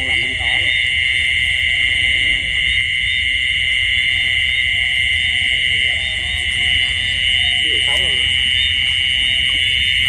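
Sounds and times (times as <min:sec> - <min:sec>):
night insects buzzing: 0:00.0 - 0:10.0.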